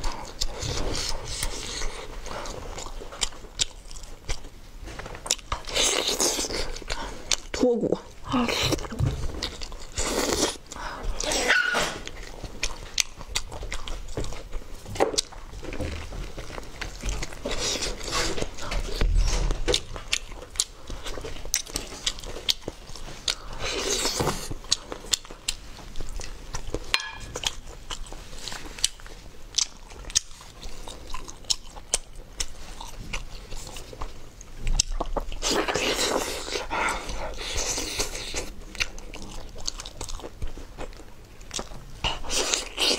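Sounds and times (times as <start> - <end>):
close-miked chewing and lip-smacking: 0.0 - 42.9.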